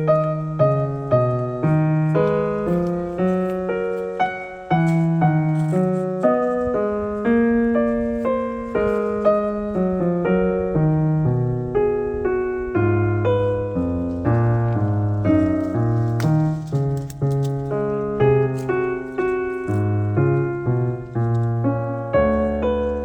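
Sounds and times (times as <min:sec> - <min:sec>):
gentle solo piano: 0:00.0 - 0:23.0.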